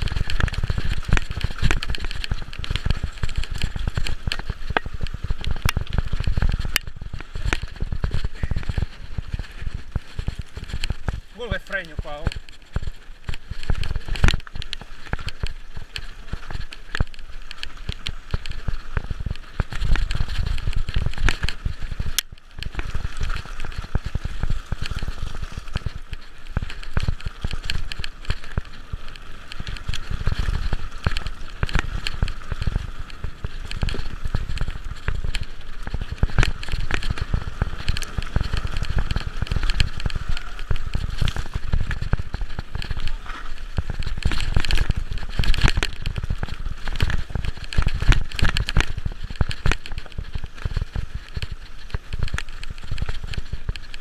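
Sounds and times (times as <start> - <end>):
bike rattles and knocks: 0.0 - 54.0
tyres crunching over leaves and stones: 0.0 - 54.0.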